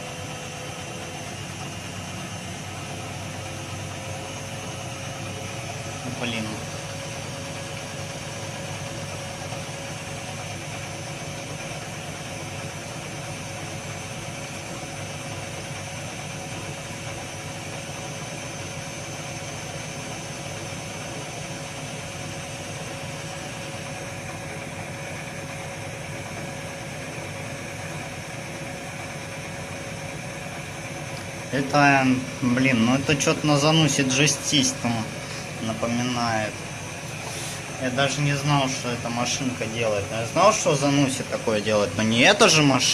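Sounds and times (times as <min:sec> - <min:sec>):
washing machine drum spinning: 0:00.0 - 0:42.9.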